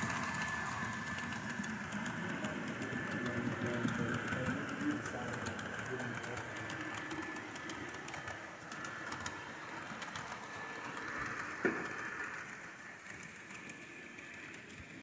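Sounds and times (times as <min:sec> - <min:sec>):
model trains whirring: 0:00.0 - 0:15.0
wheels ticking on track: 0:00.0 - 0:15.0.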